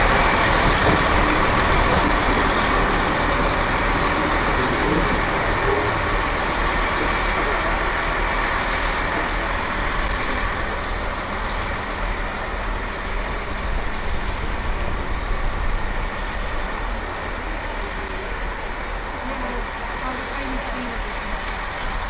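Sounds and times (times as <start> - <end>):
diesel train engines running: 0.0 - 22.0
train wheels rumbling on rails: 0.0 - 22.0.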